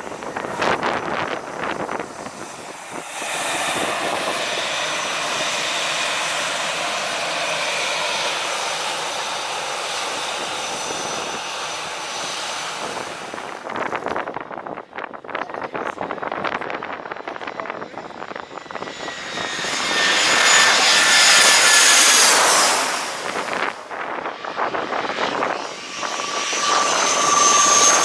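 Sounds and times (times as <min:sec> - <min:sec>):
wind noise on microphone: 0:00.0 - 0:09.0, 0:09.9 - 0:28.0
jet engines roaring: 0:00.0 - 0:28.0.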